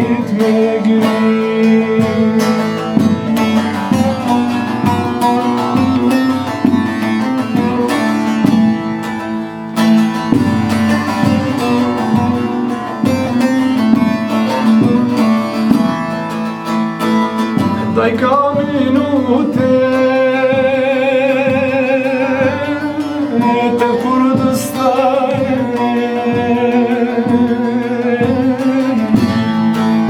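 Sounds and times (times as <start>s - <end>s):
plucked string instruments melody: 0.0s - 30.0s.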